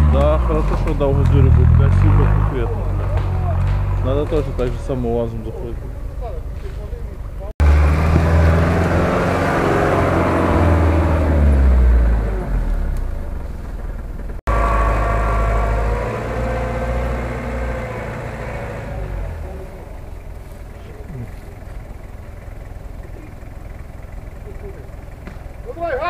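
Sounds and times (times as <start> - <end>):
truck engine under load: 0.0 - 26.0.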